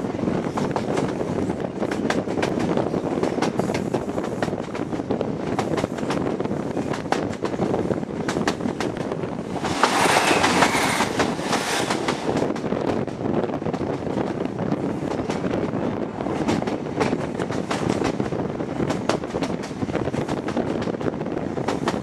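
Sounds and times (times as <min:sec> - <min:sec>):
clickety-clack of rail joints: 0:00.0 - 0:22.0
passing train rush: 0:00.0 - 0:22.0
train wheels rumbling: 0:00.0 - 0:22.0.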